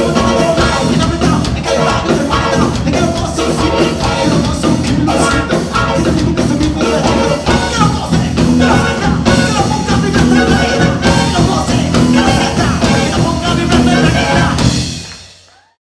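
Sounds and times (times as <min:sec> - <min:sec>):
singing: 0:00.0 - 0:14.6
steady percussion: 0:00.0 - 0:15.5
band playing lively music: 0:00.0 - 0:15.8.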